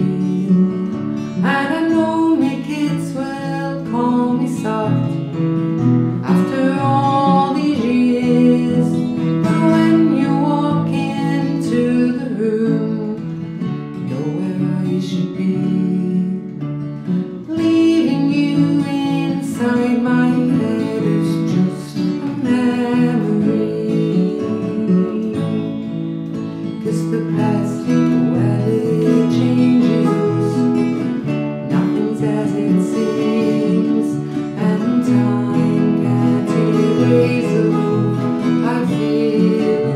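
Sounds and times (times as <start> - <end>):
acoustic guitars playing: 0.0 - 39.9
woman singing: 0.0 - 39.9.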